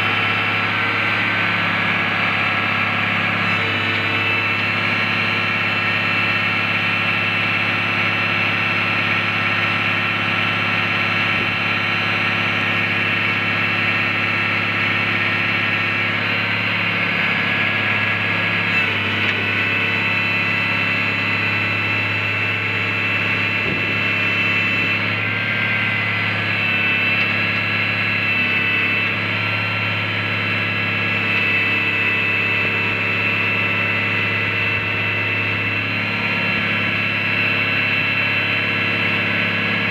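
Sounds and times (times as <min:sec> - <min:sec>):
diesel engine running: 0:00.0 - 0:39.9
steady high whine: 0:00.0 - 0:39.9.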